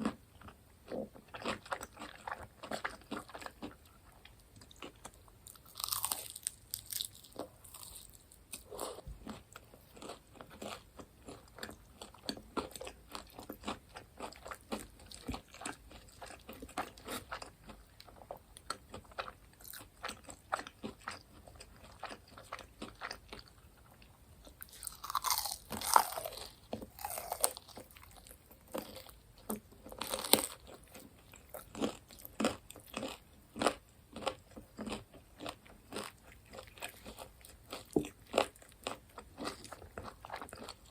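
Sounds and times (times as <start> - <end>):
chewing crispy fried food: 0.0 - 40.9.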